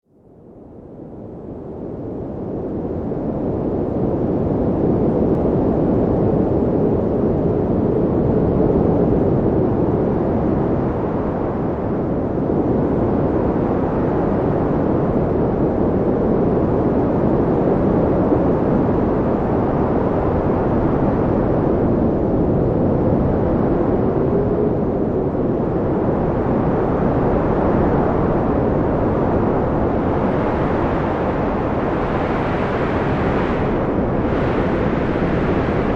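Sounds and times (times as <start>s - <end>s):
strong wind blowing: 0.4s - 35.9s
wind howling: 1.5s - 35.9s.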